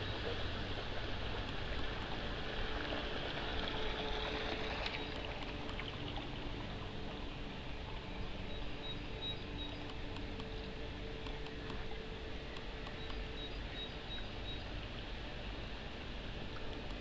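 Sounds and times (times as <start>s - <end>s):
distant model boat motor hum: 0.0s - 17.0s
rippling water: 0.0s - 17.0s
wind: 0.0s - 17.0s.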